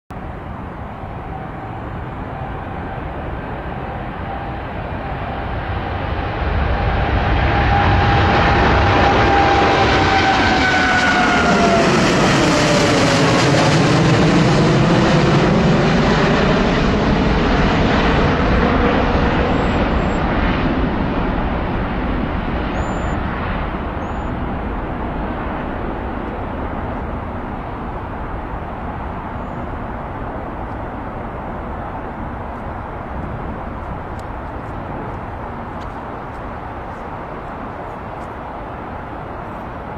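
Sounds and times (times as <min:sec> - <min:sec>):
jet engines roaring with whine: 0:00.1 - 0:39.9.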